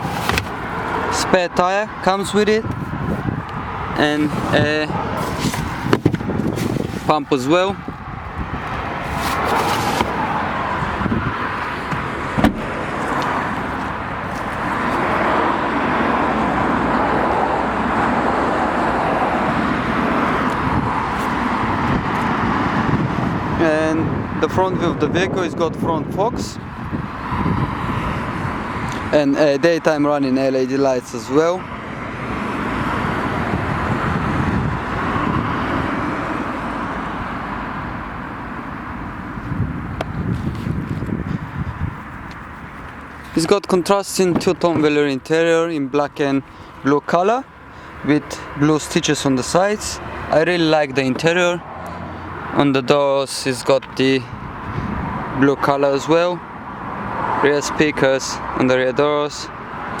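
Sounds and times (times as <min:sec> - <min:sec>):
road traffic noise: 0:00.0 - 1:00.0.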